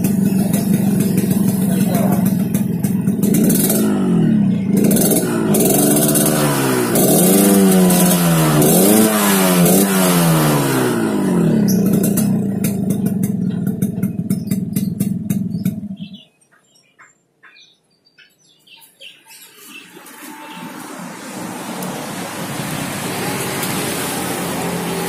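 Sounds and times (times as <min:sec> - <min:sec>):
exhaust crackling and popping: 0:00.0 - 0:16.2, 0:20.8 - 0:25.0
two-stroke motorcycle engine revving: 0:00.0 - 0:16.3, 0:20.8 - 0:25.0.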